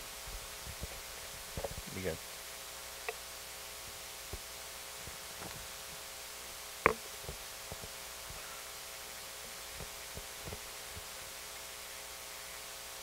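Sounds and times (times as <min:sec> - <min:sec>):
sound system hum and hiss: 0:00.0 - 0:13.0.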